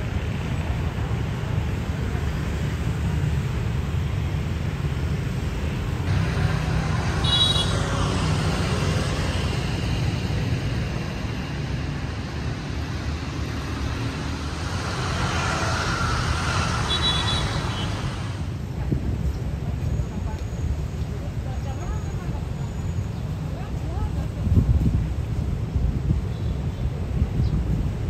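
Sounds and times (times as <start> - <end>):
passing vehicles rumbling: 0.0 - 28.0.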